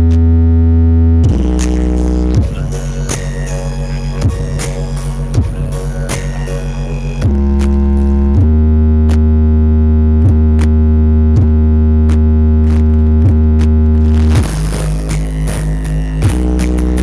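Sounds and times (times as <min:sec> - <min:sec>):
heavy synth bass note: 0:00.0 - 0:17.0
loud electronic music: 0:00.0 - 0:17.0.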